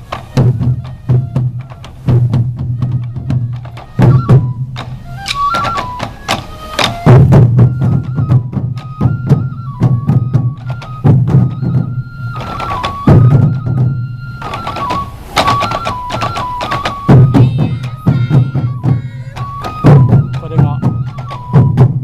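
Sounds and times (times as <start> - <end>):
bamboo flute melody: 0.0 - 22.0
taiko drums beating: 0.0 - 22.0.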